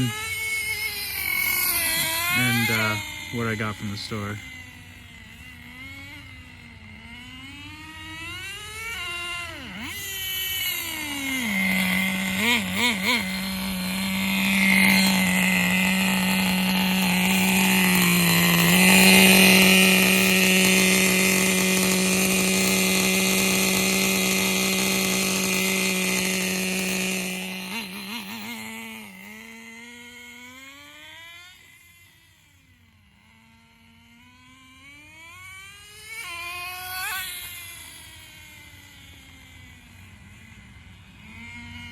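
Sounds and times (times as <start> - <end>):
rc car engine revving: 0.0 - 41.9.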